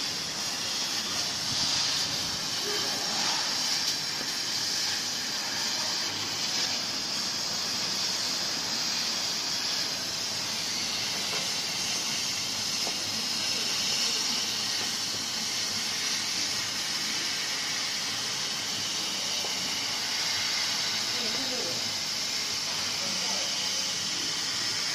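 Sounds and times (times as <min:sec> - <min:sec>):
laser cutter air hiss: 0:00.0 - 0:24.9
laser head whirring: 0:00.0 - 0:24.9.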